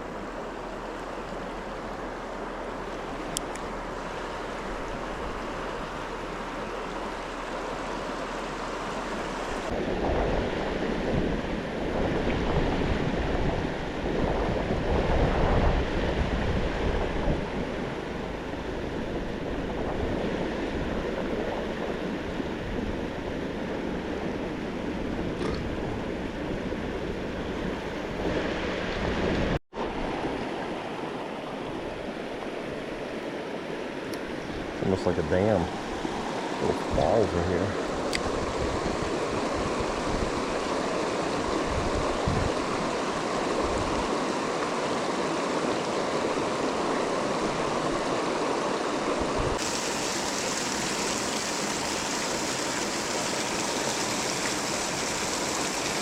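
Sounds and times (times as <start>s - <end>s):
river water rushing: 0.0s - 11.0s, 15.8s - 56.0s
wind rumble on microphone: 0.0s - 33.6s, 34.2s - 49.6s.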